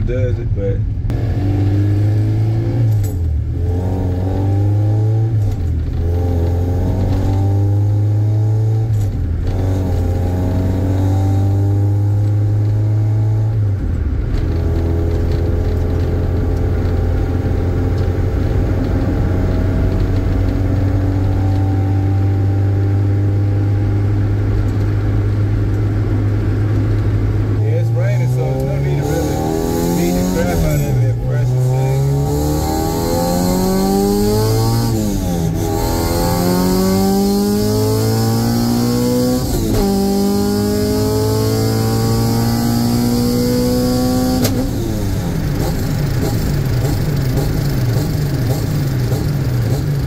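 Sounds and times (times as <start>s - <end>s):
car engine revving through gears: 0.2s - 50.0s.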